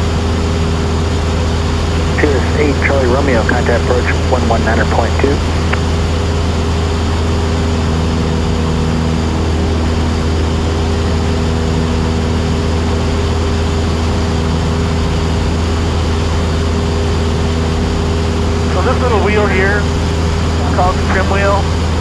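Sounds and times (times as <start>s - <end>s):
airplane engine droning in cabin: 0.0s - 22.0s.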